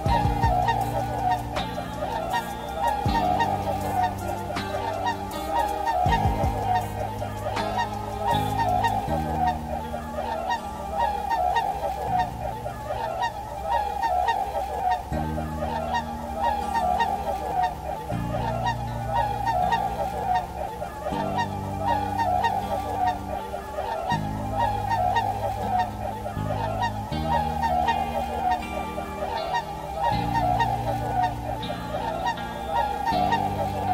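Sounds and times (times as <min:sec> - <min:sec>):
soft background music: 0:00.0 - 0:33.9
swans honking: 0:00.0 - 0:33.9.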